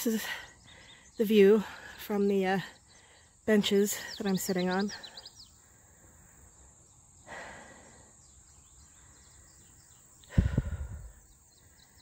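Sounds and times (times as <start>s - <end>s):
insects droning: 0.0s - 12.0s
bird chirps: 0.4s - 5.8s, 6.5s - 12.0s.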